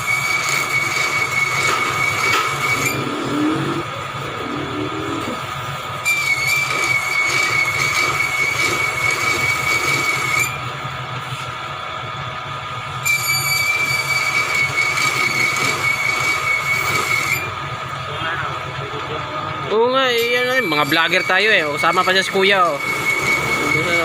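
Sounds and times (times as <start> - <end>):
machine tool cutting metal squeal: 0.0 - 10.7, 13.0 - 17.6, 20.1 - 24.0
machine hum: 0.0 - 24.0.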